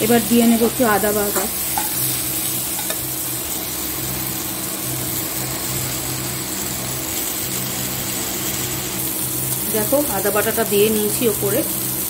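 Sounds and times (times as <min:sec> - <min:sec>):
steady low hum: 0:00.0 - 0:12.0
vegetables sizzling in pan: 0:00.0 - 0:12.0.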